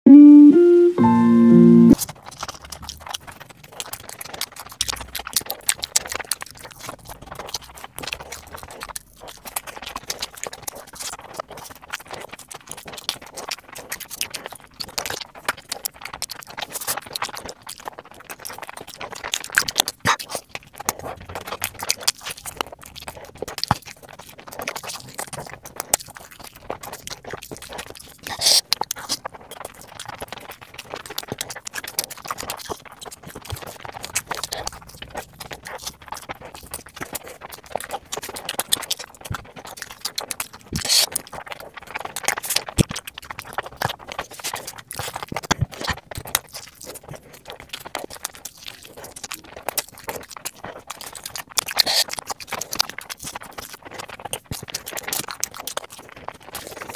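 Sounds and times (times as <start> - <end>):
chewing and mouth smacking: 1.1 - 56.9.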